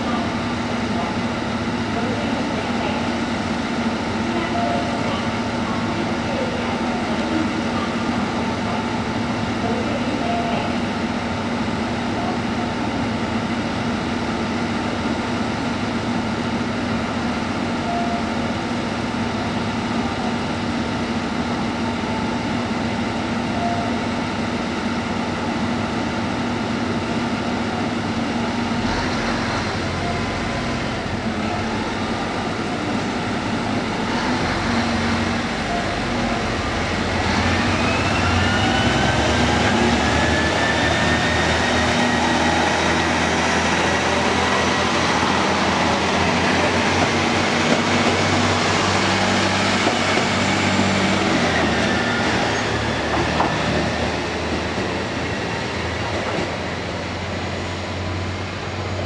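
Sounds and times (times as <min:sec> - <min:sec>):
diesel railcar engine humming: 0:00.0 - 0:59.0.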